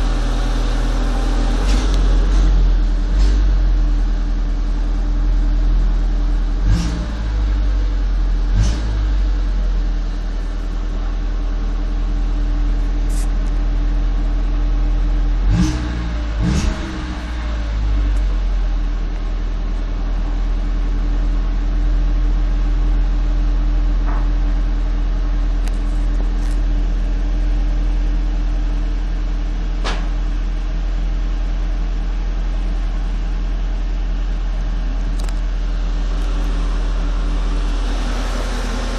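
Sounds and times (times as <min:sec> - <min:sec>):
car engine humming: 0:00.0 - 0:38.9.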